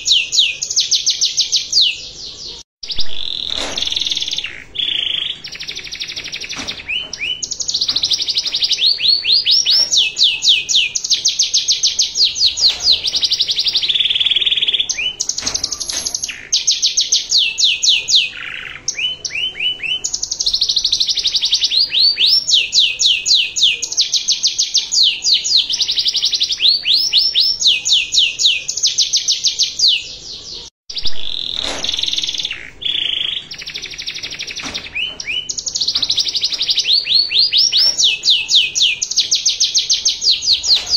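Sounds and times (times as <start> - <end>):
canary trilling song: 0.0 - 40.9.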